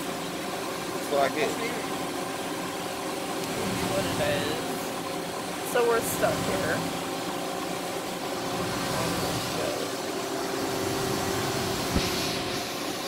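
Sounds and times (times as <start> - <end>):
machinery hum with steady tones: 0.0 - 13.0.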